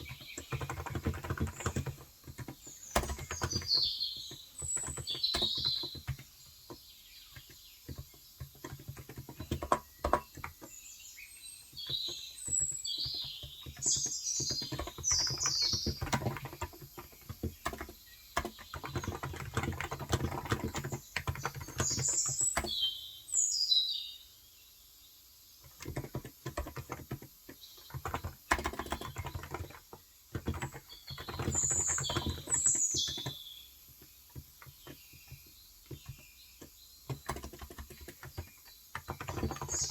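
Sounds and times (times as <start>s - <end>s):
keyboard typing: 0.0s - 10.8s, 11.6s - 22.8s, 25.6s - 39.9s
birds chirping: 0.0s - 39.9s.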